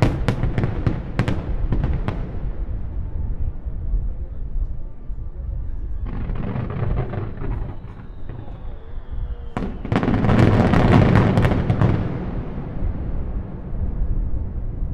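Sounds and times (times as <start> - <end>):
fireworks bursting and crackling: 0.0 - 4.7, 5.6 - 14.9.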